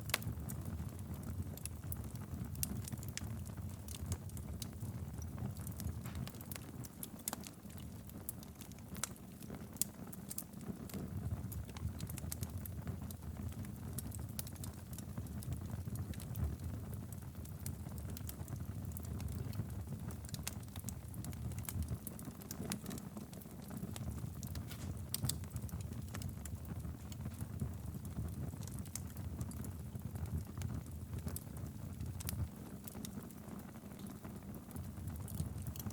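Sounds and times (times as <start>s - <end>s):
fire crackling and popping: 0.0s - 35.9s
flames rumbling: 0.0s - 35.9s.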